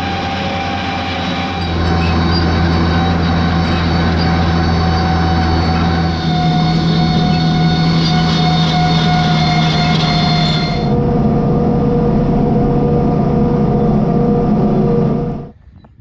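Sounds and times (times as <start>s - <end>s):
machinery whine: 0.0s - 15.6s
tractor engine running: 0.0s - 15.7s.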